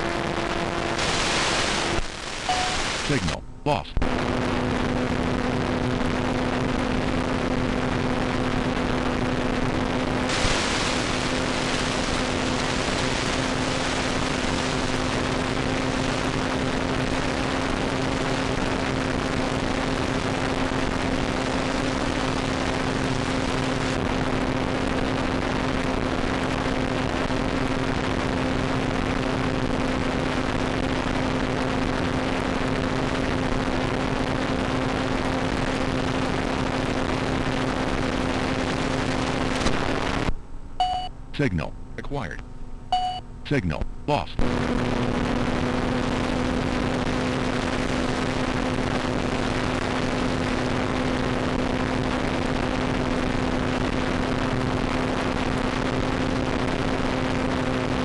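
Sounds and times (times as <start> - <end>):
static hiss: 0.0 - 41.5, 43.7 - 58.0
constant low hum: 0.0 - 58.0.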